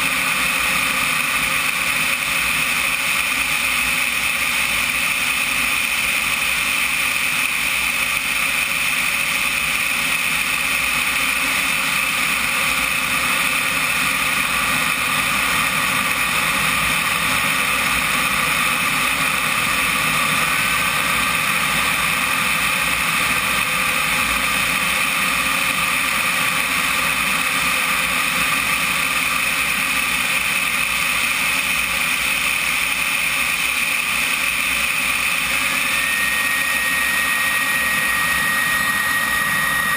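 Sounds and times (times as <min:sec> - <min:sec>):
jet turbine engine running: 0:00.0 - 0:39.9.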